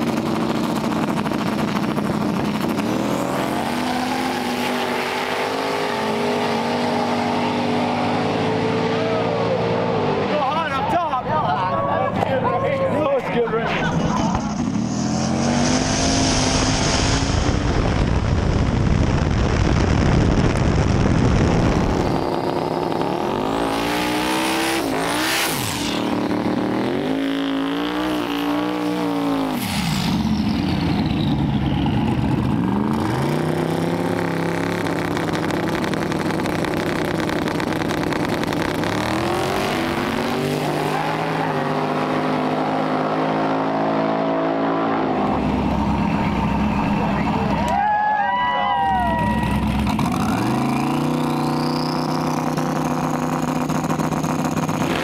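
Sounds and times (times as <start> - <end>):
car engine revving: 0.0 - 11.4, 12.0 - 47.8, 48.9 - 55.0.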